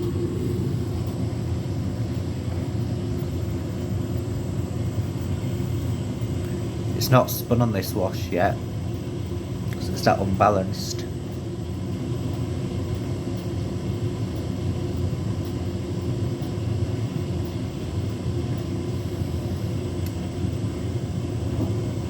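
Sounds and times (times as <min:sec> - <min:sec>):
washing machine rumbling: 0:00.0 - 0:22.0.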